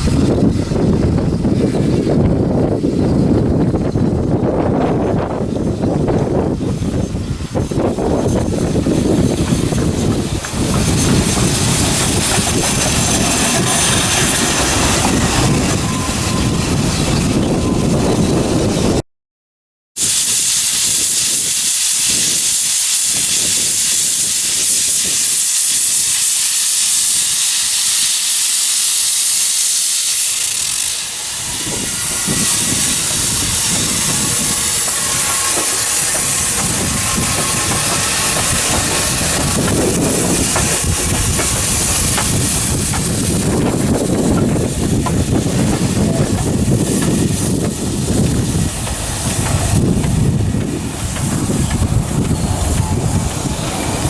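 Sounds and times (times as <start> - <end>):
steam hissing: 0.0 - 18.8, 20.0 - 54.0.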